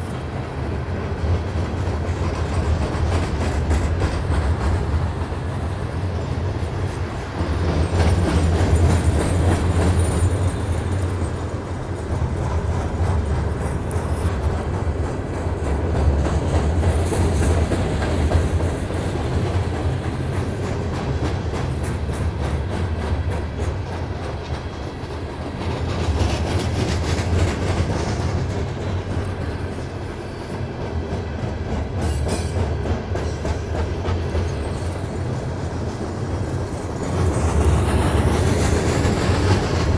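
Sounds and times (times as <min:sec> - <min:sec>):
freight train rumbling over bridge: 0:00.0 - 0:39.9
train wheels clacking on rail joints: 0:00.0 - 0:39.9.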